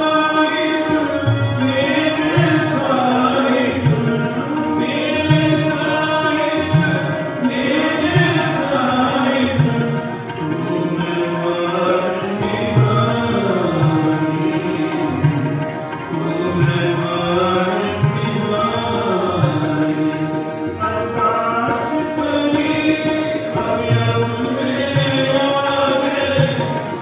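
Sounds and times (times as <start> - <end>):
tabla beat: 0.0 - 27.0.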